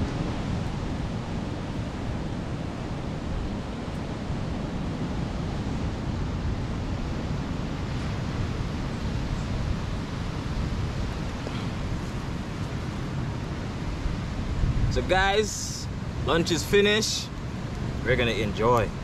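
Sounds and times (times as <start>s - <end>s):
ocean surf breaking: 0.0s - 19.0s
wind on microphone: 0.0s - 19.0s.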